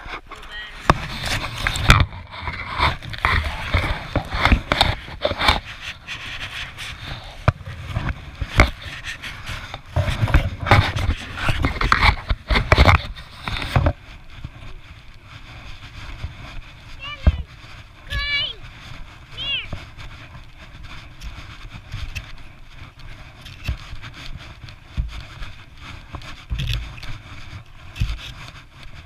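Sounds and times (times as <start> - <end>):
fabric rubbing and knocking: 0.0 - 29.0
plastic shovel scraping snow: 0.0 - 29.0.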